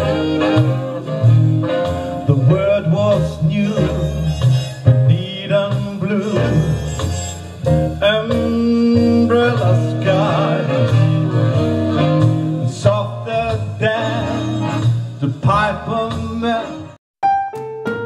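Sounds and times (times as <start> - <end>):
country song with guitar: 0.0 - 16.9.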